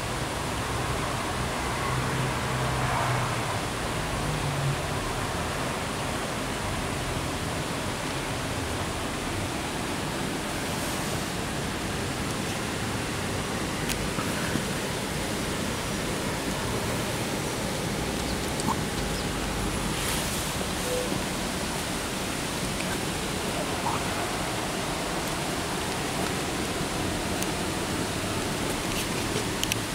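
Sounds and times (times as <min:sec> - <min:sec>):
running water rushing: 0:00.0 - 0:29.9.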